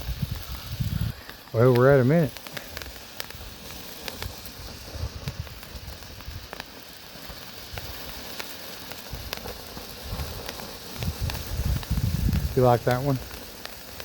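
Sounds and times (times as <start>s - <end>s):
firework fountain hissing: 0.0s - 14.0s
small crackles: 0.0s - 14.0s.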